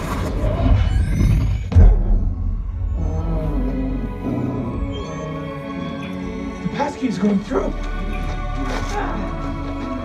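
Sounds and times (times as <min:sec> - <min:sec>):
film score music: 0:00.0 - 0:10.0.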